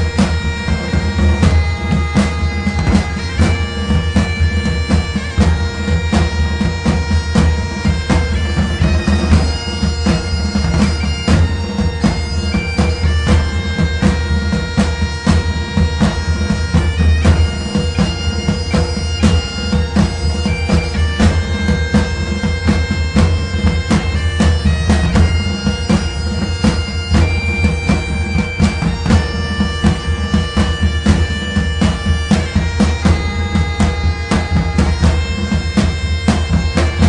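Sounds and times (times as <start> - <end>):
steady drum beat: 0.0 - 37.0.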